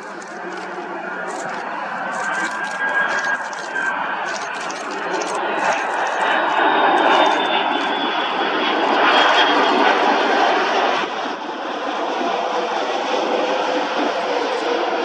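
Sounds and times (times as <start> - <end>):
jet airliner engines running: 0.0 - 15.0.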